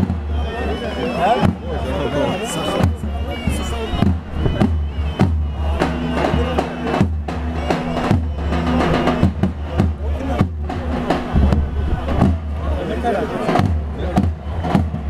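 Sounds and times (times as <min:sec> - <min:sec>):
bass drum strokes: 0:02.8 - 0:15.0.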